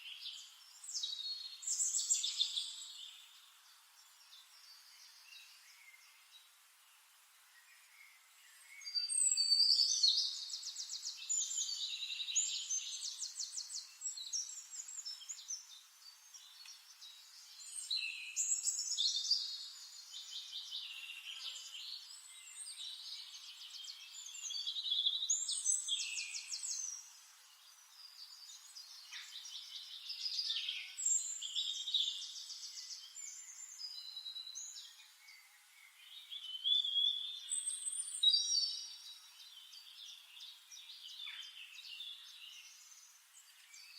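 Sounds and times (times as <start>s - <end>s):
bird singing warbling trills: 8.6s - 43.9s.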